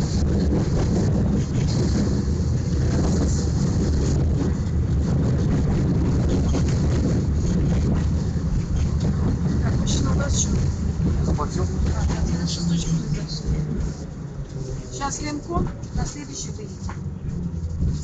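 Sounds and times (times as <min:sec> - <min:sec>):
tram rumbling on rails: 0:00.0 - 0:18.0.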